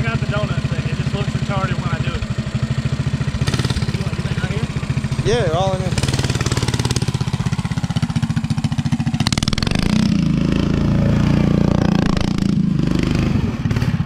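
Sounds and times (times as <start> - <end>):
small engine revving: 0.0 - 14.0.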